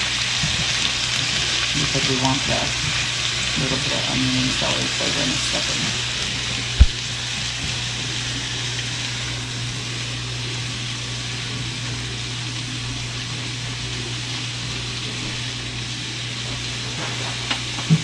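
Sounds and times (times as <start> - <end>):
vegetables sizzling in a skillet: 0.0 - 18.0.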